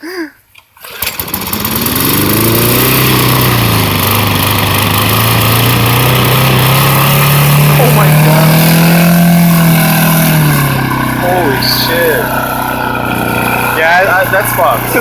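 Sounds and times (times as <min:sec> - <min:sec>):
lawn mower engine running: 0:00.5 - 0:15.0.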